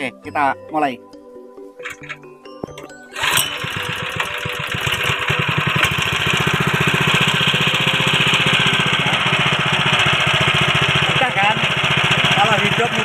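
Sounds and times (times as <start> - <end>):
petrol engine running: 1.8 - 13.0.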